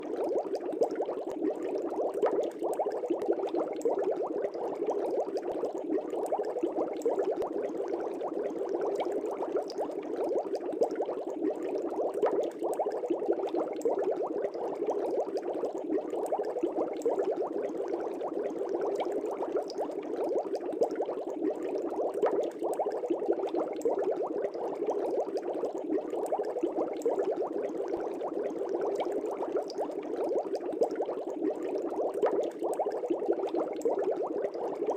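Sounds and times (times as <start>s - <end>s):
air bubbles in fish tank: 0.0s - 34.9s.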